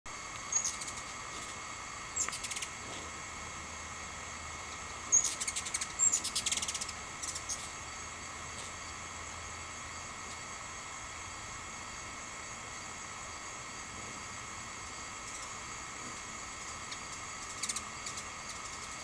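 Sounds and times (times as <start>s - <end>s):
steady high drone: 0.1s - 19.0s
hummingbirds chipping and trilling: 0.4s - 19.0s.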